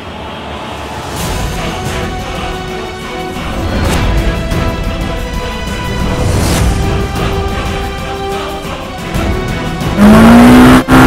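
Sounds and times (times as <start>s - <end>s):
dramatic music with heavy bass: 0.0s - 11.0s.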